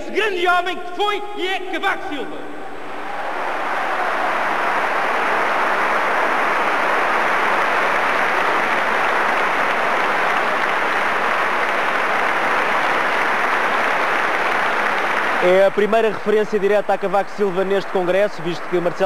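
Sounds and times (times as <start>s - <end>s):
large audience applauding: 3.0s - 19.0s.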